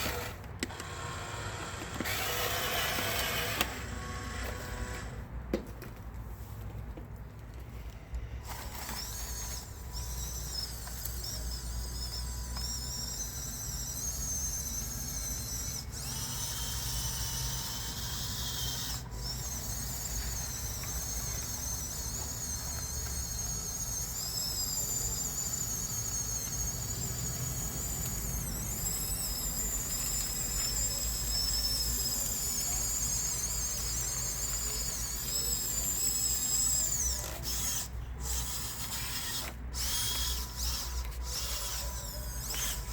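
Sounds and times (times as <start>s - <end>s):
electric motors whining: 0.0s - 5.3s, 7.8s - 42.9s.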